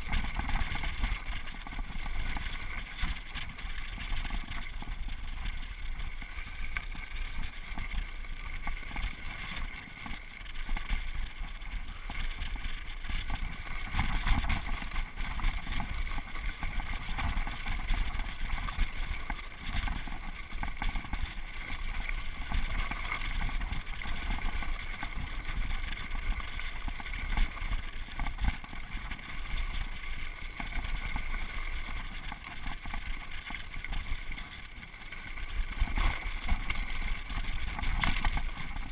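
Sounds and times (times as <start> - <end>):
bike rattling over bumps: 0.0 - 38.9
bike tyres rolling over dirt: 0.0 - 38.9.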